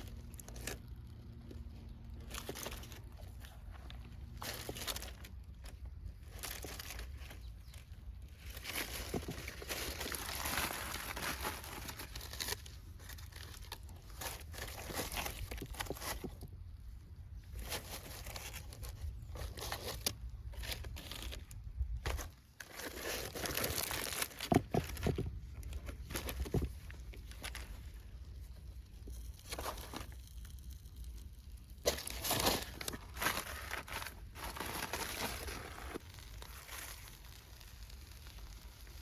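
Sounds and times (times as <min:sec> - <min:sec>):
aluminium foil crinkling: 0:00.0 - 0:16.6, 0:17.3 - 0:39.0.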